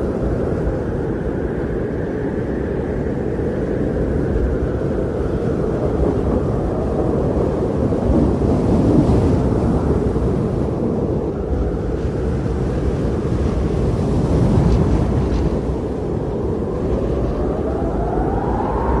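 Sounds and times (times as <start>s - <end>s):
blizzard wind roaring: 0.0s - 19.0s.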